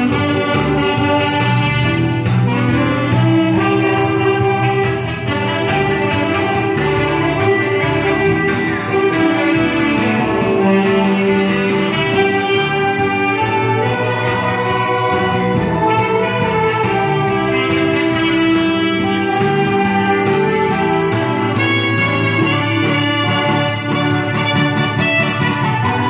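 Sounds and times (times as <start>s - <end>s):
saxophones playing a tune: 0.0s - 26.0s.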